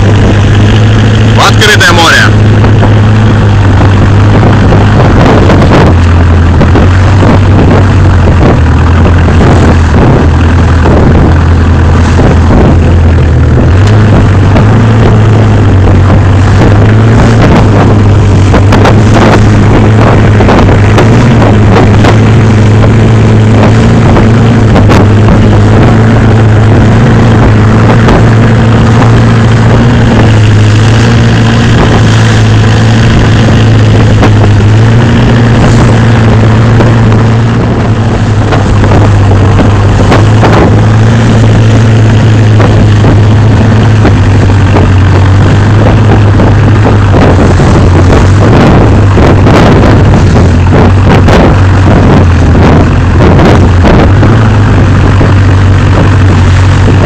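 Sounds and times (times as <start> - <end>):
boat engine running: 0.0 - 57.0
water splashing past hull: 0.0 - 57.0.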